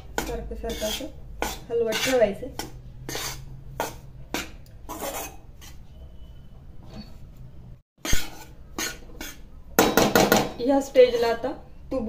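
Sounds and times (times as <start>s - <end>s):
metal spatula scraping a pan: 0.0s - 7.3s, 8.0s - 9.5s, 10.2s - 11.5s.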